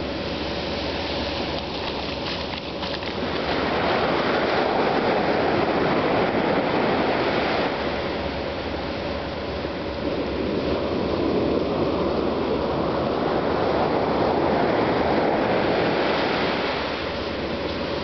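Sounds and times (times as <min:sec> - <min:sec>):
waves washing on beach: 0:00.0 - 0:18.0.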